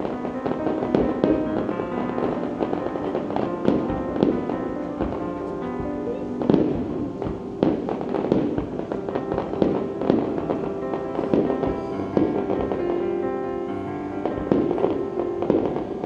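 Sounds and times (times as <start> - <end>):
fireworks bursting bangs: 0.0 - 16.0
music: 0.0 - 16.0.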